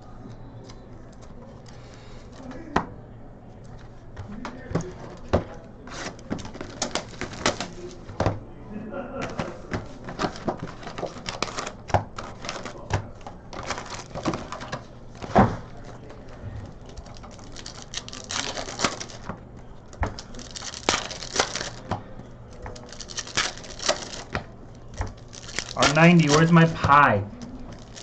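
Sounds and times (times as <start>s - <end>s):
cards clicking and rustling: 3.8s - 8.4s, 9.2s - 28.0s.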